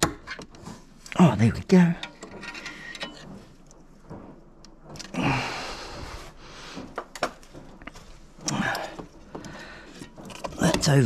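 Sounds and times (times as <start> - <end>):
rustling of wiring: 0.0 - 11.0.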